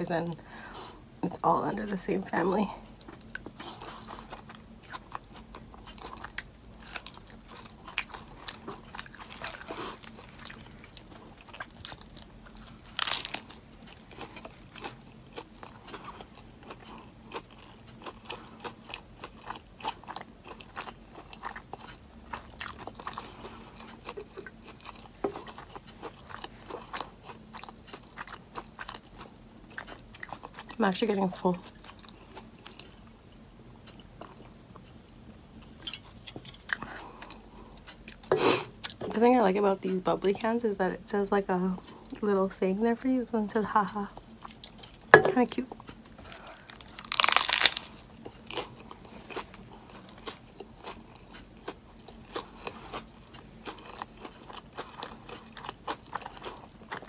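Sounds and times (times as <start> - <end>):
chewing crunchy food: 1.8 - 35.0, 35.6 - 39.2, 43.8 - 57.0.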